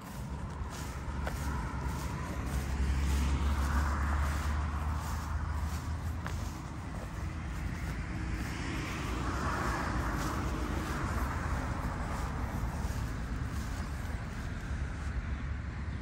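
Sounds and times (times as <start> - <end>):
car passing by: 0.0 - 16.0
low traffic rumble: 0.0 - 16.0.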